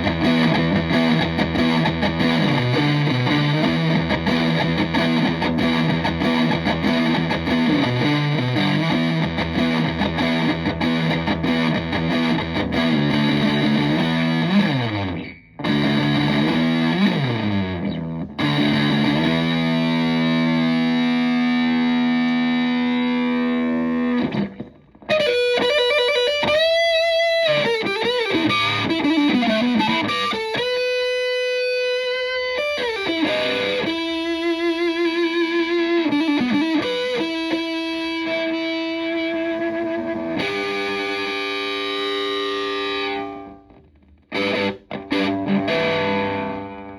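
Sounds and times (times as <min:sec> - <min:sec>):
fuzzed electric guitar: 0:00.0 - 0:46.9.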